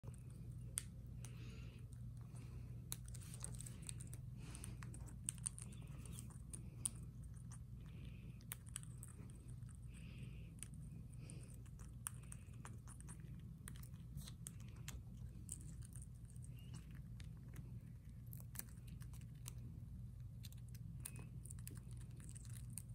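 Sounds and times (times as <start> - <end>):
low steady hum: 0.0 - 22.9
parrot beak crunching seeds: 0.0 - 22.9.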